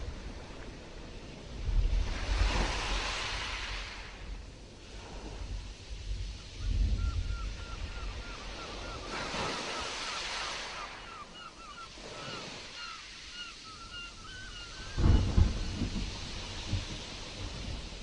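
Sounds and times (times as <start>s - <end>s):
stormy sea surf: 0.0s - 18.0s.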